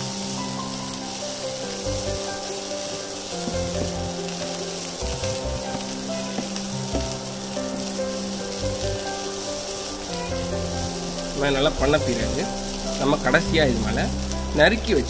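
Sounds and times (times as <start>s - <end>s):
background music with sustained notes: 0.0s - 15.0s
fish sizzling in a frying pan: 0.0s - 15.0s
wooden spatula stirring: 2.0s - 14.6s.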